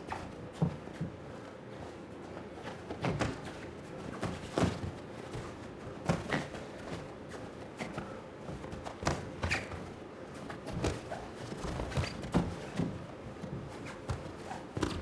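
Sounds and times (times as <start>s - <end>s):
footwork on ring canvas: 0.0s - 15.0s.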